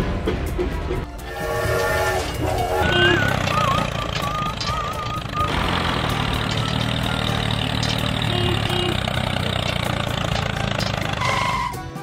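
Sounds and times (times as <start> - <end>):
tractor engine idling: 1.2 - 12.0.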